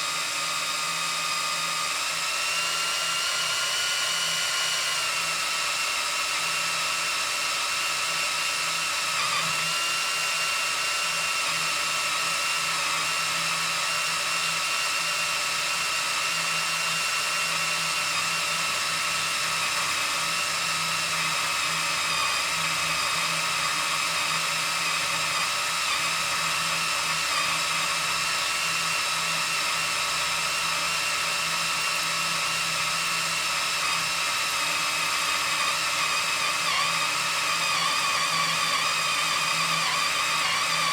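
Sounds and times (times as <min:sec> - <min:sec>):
drill whining into steel: 0:00.0 - 0:40.9.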